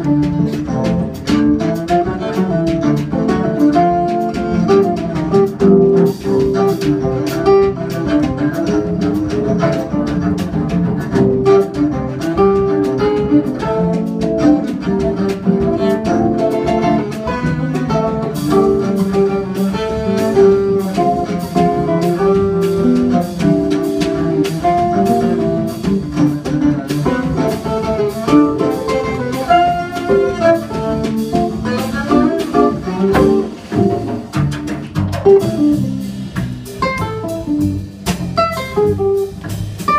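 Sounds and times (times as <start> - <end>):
bowed cello melody: 0.0 - 39.9
drum kit with cymbals: 0.0 - 39.9.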